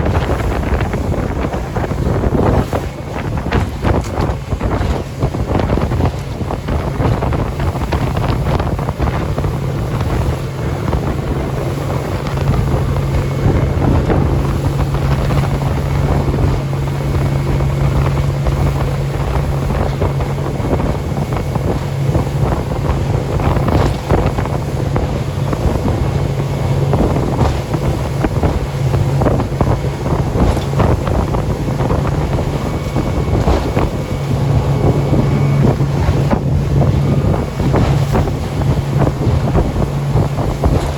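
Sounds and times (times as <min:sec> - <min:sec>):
motorboat engine humming: 0:00.0 - 0:40.9
wind buffeting microphone: 0:00.0 - 0:40.9.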